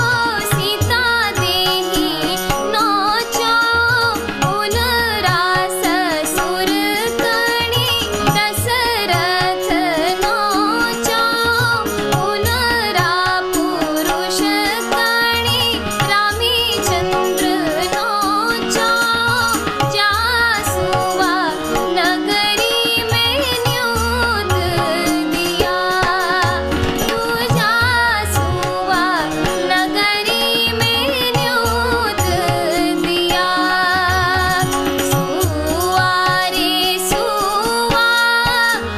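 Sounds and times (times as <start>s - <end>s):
instrumental accompaniment: 0.0s - 38.9s
woman singing folk song: 0.0s - 38.9s.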